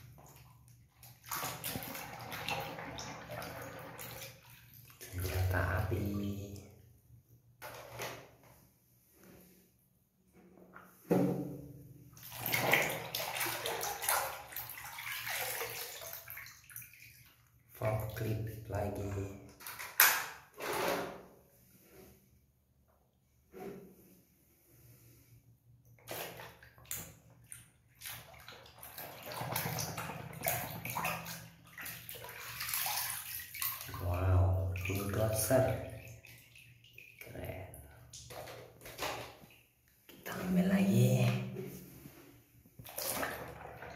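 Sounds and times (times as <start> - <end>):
water splashing in a basin: 0.0 - 6.8, 10.7 - 22.0, 25.9 - 43.9.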